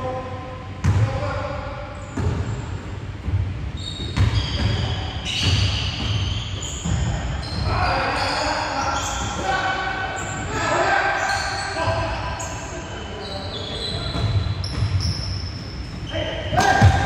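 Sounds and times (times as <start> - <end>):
sneakers squeaking: 2.0 - 17.0.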